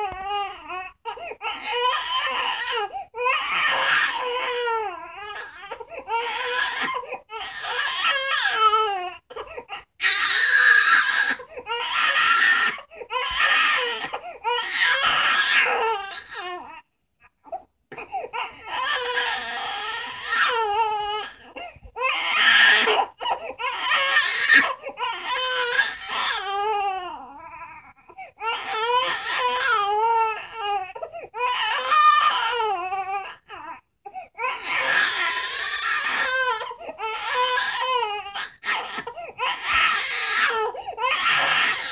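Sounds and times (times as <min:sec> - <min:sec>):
infant crying: 0:00.0 - 0:41.9.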